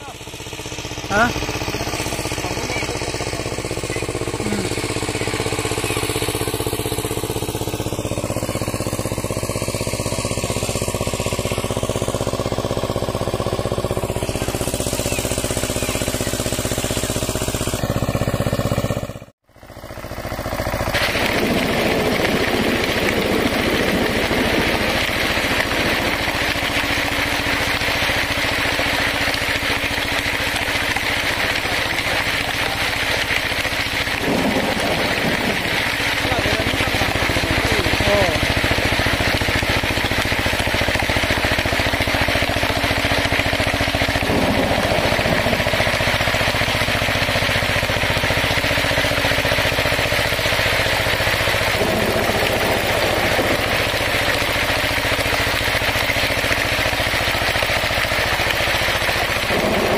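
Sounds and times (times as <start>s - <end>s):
power tiller engine running: 0.0s - 59.9s.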